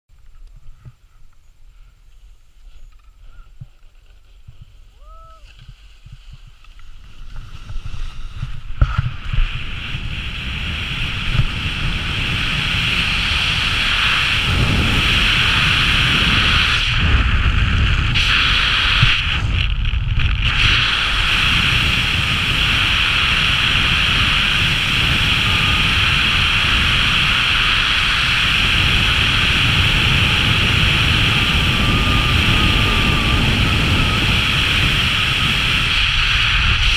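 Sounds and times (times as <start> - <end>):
wind rushing over microphone: 4.4 - 36.9.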